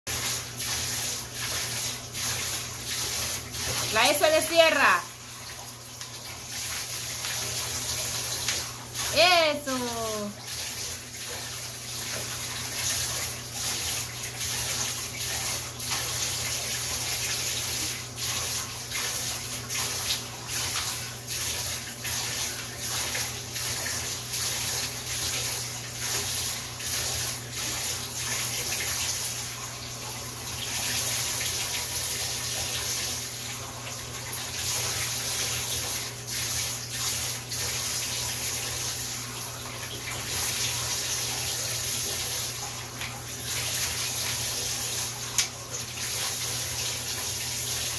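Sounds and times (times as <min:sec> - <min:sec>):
running water: 0:00.1 - 0:47.9.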